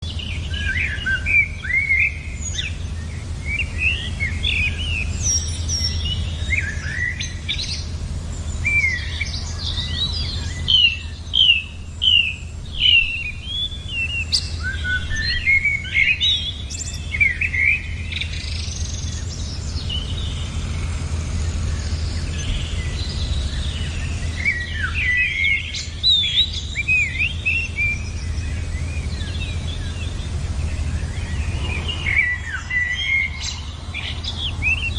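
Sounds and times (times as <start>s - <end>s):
small songbirds chirping: 0.0s - 34.9s
steady low hum: 0.0s - 34.9s.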